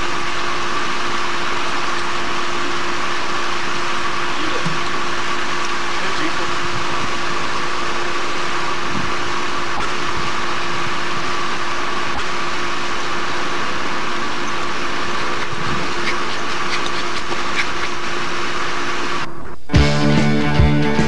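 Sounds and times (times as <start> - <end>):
motor humming: 0.0 - 19.4.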